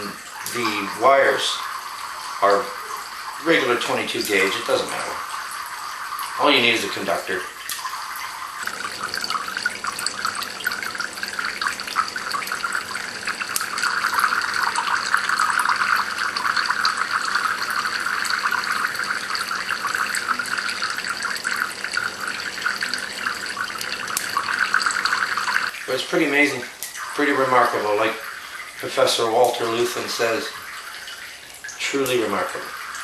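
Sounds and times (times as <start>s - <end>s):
water dripping into cans: 0.0s - 33.0s.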